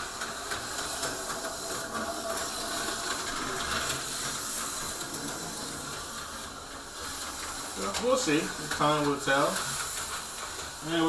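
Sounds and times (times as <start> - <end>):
slot cars whirring on track: 0.0 - 11.0.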